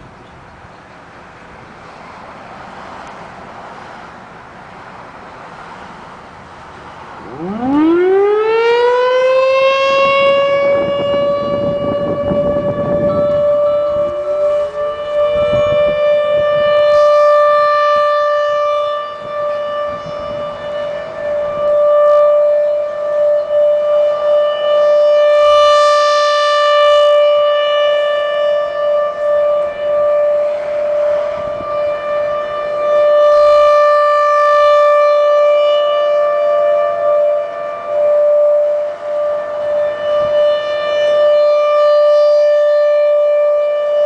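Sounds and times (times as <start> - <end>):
outdoor warning siren wailing: 0.0 - 44.0.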